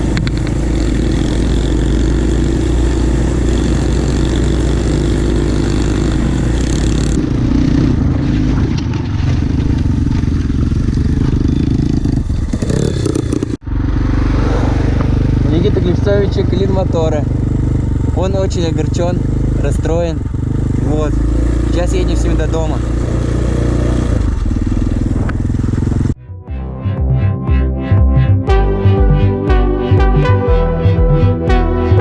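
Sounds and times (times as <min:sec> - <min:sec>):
dirt bike engine running: 0:00.0 - 0:26.2.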